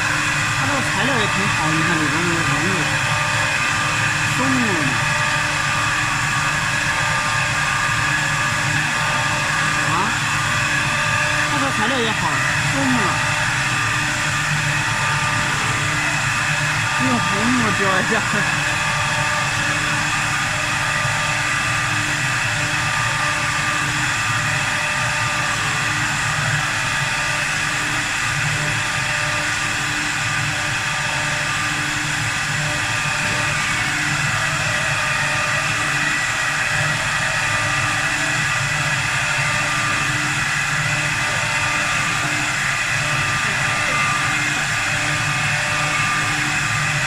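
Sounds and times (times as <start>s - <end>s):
lathe machine whine: 0.0s - 47.0s
wood cutting noise: 0.0s - 47.0s.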